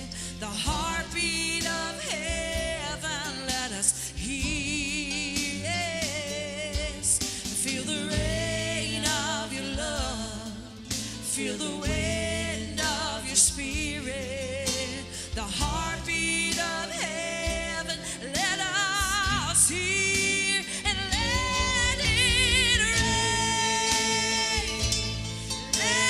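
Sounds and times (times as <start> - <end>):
band playing: 0.1 - 26.0.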